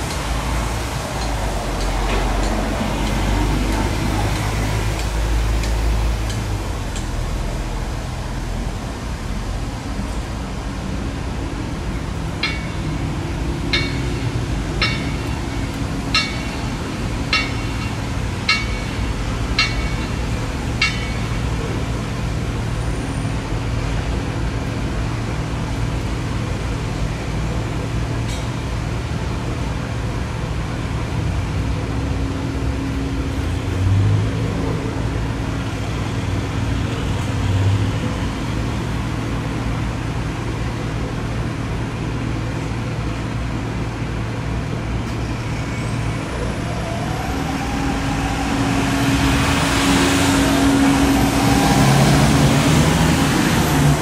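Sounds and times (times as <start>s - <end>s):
vehicles passing: 0.0s - 54.0s.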